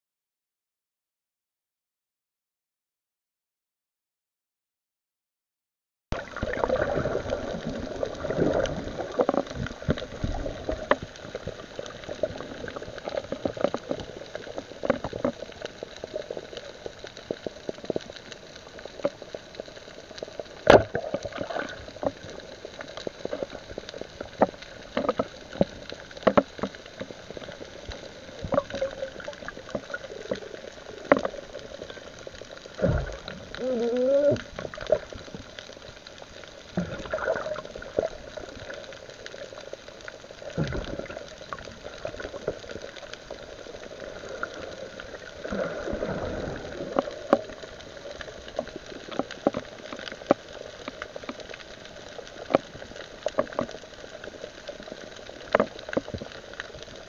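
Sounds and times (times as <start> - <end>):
underwater crackle: 6.1 - 57.0
bubbles gurgling: 6.2 - 56.6.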